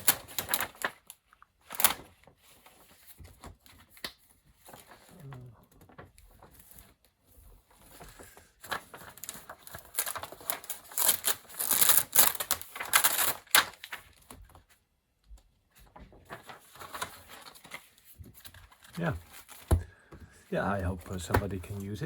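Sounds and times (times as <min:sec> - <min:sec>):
paper rustling and crackling: 0:00.0 - 0:22.0.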